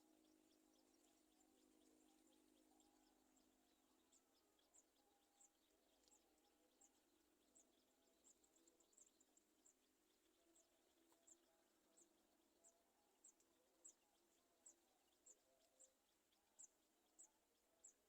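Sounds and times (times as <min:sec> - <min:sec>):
faint high bird chirps: 0:00.0 - 0:18.0.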